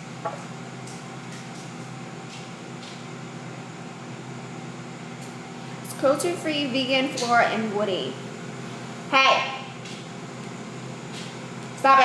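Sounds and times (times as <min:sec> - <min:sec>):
mechanical room hum: 0:00.0 - 0:12.0.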